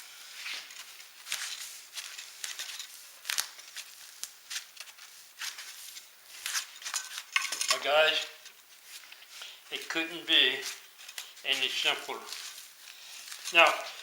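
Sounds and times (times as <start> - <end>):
foam rustling and scraping: 0.0 - 14.0.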